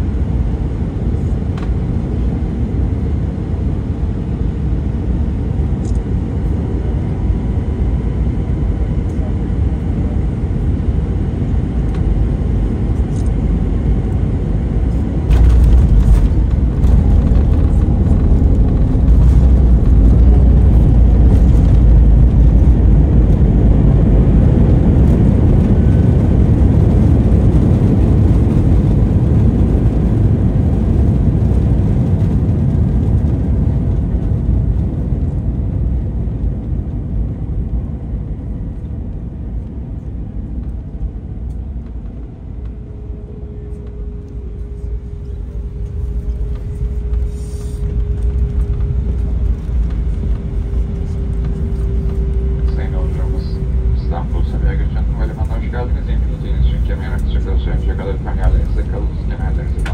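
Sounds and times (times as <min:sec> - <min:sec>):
aircraft engines and runway rumble: 0:00.0 - 0:59.9.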